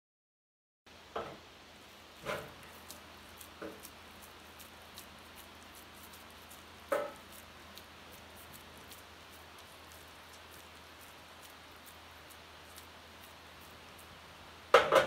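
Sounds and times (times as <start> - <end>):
hands squishing minced meat: 1.8 - 14.8.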